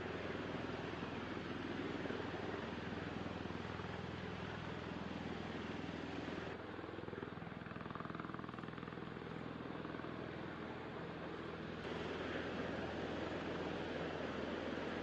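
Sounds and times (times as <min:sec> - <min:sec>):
aircraft engines and rotors droning: 0:00.0 - 0:15.0.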